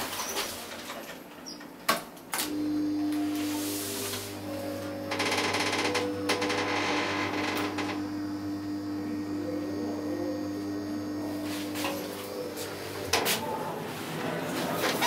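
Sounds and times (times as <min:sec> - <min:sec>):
elevator mechanical hum: 0:00.6 - 0:15.0
elevator whirring: 0:02.5 - 0:15.0.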